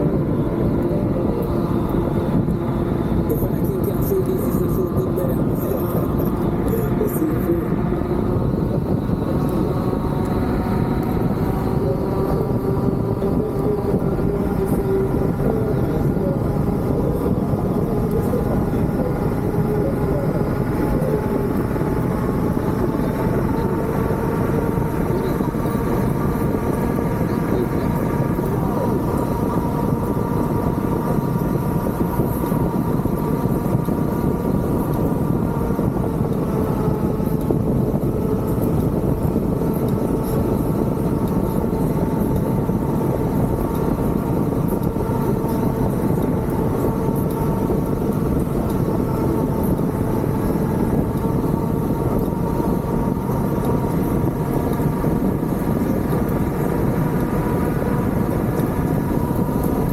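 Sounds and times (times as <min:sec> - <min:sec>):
faint wavering wind whistles: 0:00.0 - 0:59.9
hurricane wind blowing: 0:00.0 - 0:59.9.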